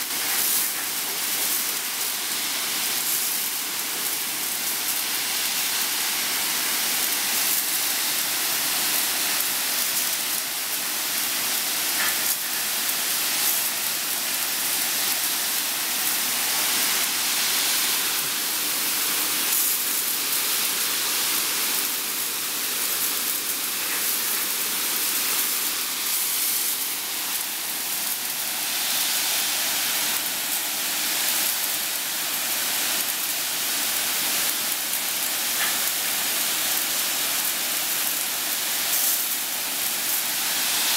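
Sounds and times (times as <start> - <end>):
water jets spraying: 0.0 - 40.9.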